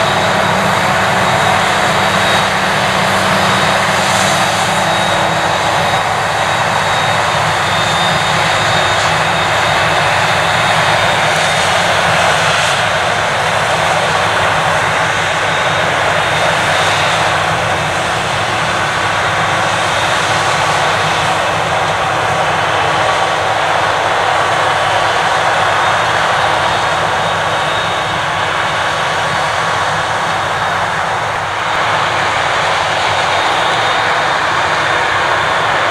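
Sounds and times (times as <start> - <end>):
faint high whine: 0.0 - 35.9
forage harvester engine rushing: 0.0 - 35.9
tractor running: 0.0 - 35.9.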